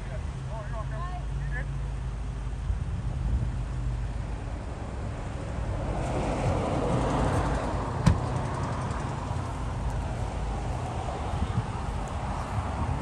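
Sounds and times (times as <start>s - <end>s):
low traffic rumble: 0.0s - 13.0s
vehicle passing: 0.0s - 13.0s.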